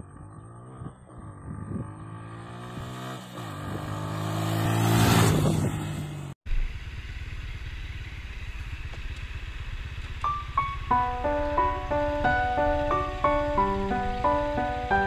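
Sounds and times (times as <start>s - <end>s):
motorcycle riding past: 0.0s - 15.0s.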